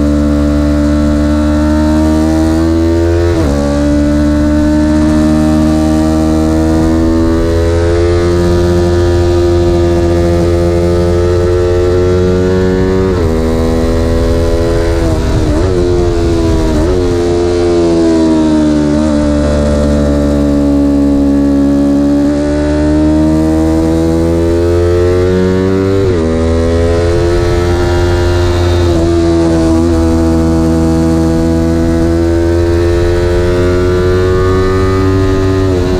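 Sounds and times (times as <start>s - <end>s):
vehicle engine accelerating: 0.0s - 35.9s.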